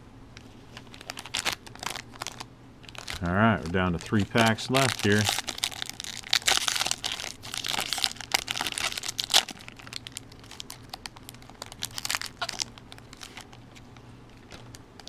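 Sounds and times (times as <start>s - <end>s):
foil wrapper crinkling: 0.7s - 15.0s.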